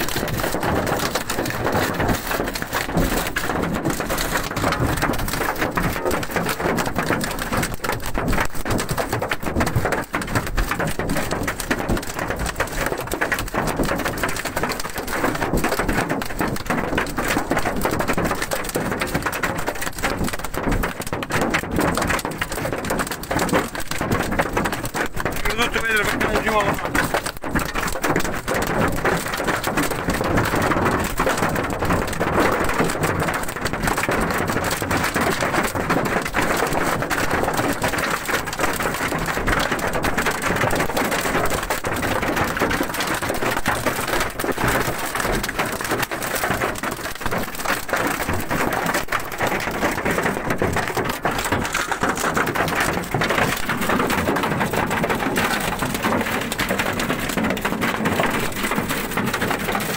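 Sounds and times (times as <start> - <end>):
hail clattering on vehicle roof: 0.0 - 59.9.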